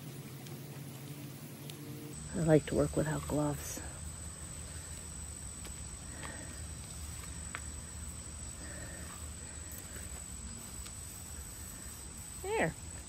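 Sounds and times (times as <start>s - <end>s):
crickets trilling: 0.0s - 13.0s
low outdoor rumble: 0.0s - 13.0s.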